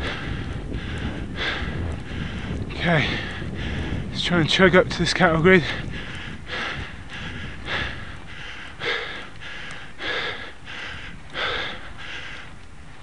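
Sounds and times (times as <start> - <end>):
person breathing hard: 0.0 - 4.1, 5.6 - 13.0.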